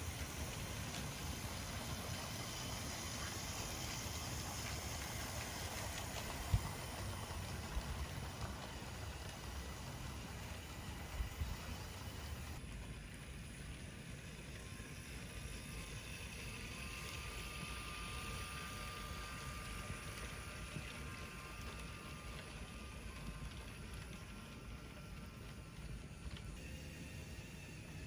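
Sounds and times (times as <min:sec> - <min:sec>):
toy train motor whine: 0:00.0 - 0:28.0.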